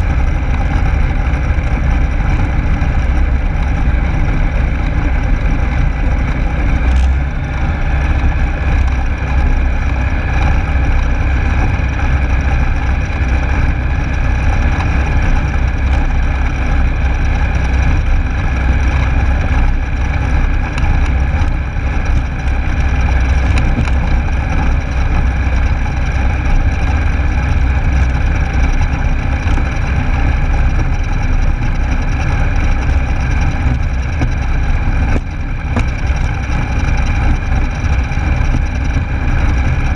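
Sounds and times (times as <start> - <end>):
light aircraft engine running: 0.0 - 39.9.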